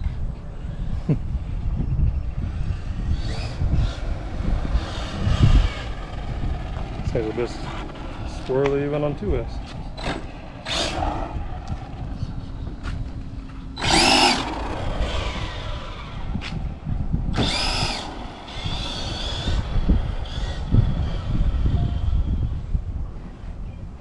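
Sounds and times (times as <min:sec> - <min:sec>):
electric motor whining: 0:02.2 - 0:22.8.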